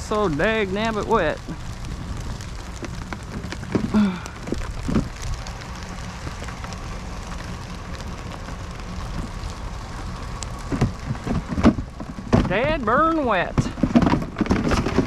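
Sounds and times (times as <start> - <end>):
low hum: 0.0 - 15.0
steady rain falling: 0.0 - 15.0.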